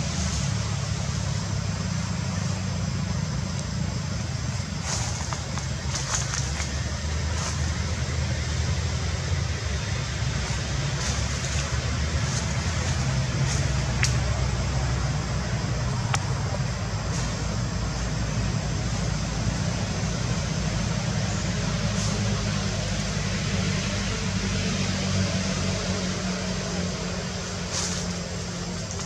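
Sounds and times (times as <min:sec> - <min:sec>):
low engine-like rumble: 0:00.0 - 0:29.0.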